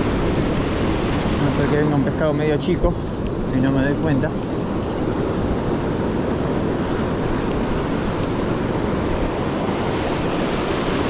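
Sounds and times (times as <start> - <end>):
sea surf breaking on shore: 0.0 - 11.0.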